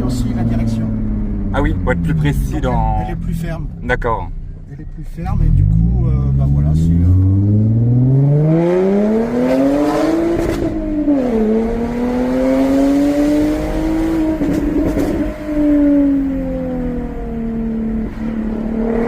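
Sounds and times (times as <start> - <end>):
car engine accelerating hard: 0.0 - 4.0, 5.0 - 19.0.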